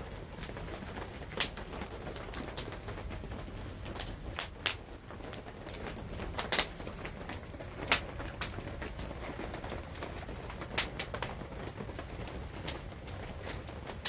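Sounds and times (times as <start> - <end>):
campfire crackling pops: 0.0 - 14.0
low rumble of burning fire: 0.0 - 14.0.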